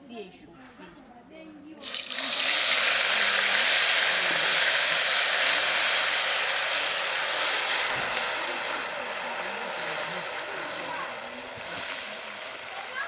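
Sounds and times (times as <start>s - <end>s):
tomatoes sizzling in hot oil: 1.8s - 13.0s.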